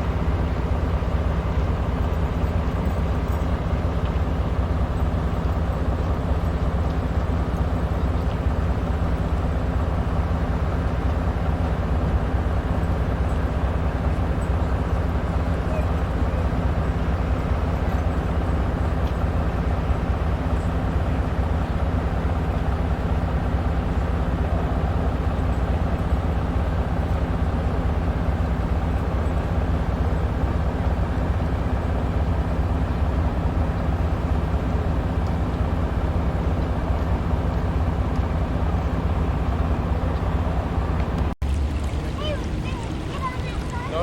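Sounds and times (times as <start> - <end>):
engine drone: 0.0 - 44.0.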